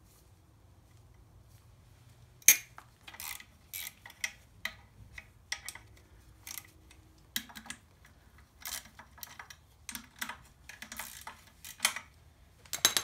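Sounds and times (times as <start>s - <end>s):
metal engine parts clicking and scraping: 2.4s - 13.0s.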